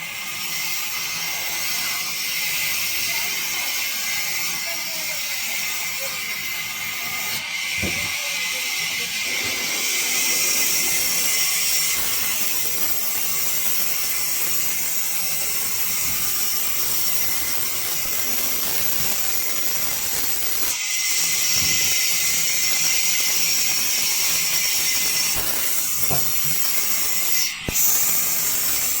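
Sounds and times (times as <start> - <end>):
saw cutting through wood: 0.0 - 29.0.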